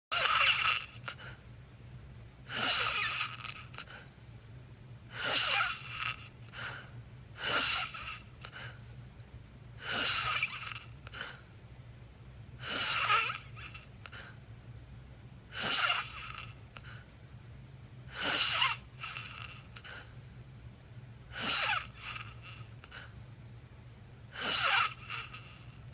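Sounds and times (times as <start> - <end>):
wheezy snoring breaths: 0.1 - 25.9.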